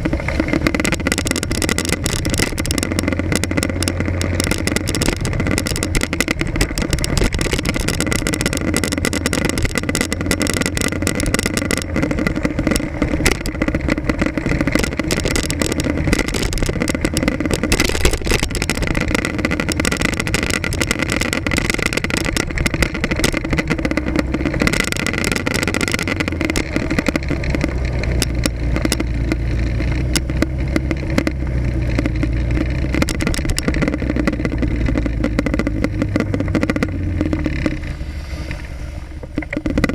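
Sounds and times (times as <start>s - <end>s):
sharp rattling clicks: 0.0s - 38.0s, 39.2s - 39.9s
motorcycle engine running: 0.0s - 39.9s.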